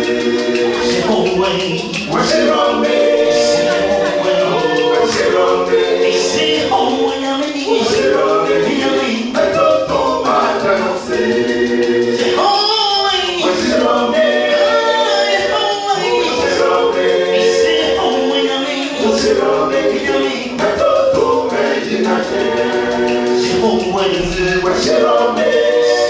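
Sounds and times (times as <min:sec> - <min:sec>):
a cappella group singing: 0:00.0 - 0:26.0.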